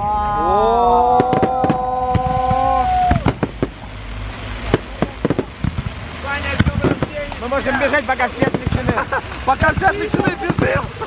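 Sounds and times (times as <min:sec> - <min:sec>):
fireworks bangs and crackling: 0:00.4 - 0:11.0.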